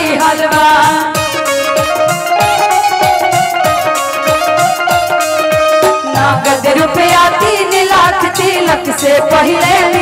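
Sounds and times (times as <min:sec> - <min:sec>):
held melody line: 0:00.0 - 0:10.0
quick steady drum beat: 0:00.0 - 0:10.0.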